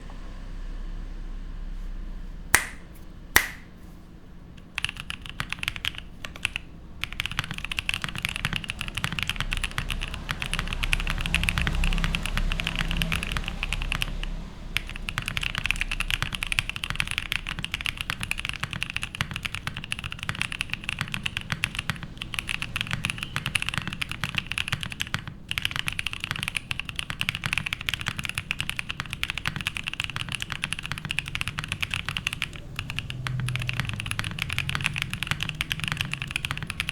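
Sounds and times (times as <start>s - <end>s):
fast mechanical keyboard typing: 4.6s - 36.9s.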